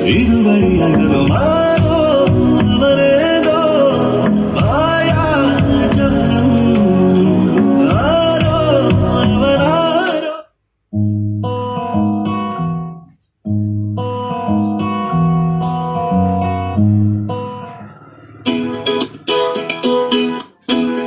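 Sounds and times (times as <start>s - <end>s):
plucked strings over heavy bass: 0.0s - 10.2s, 11.0s - 21.0s.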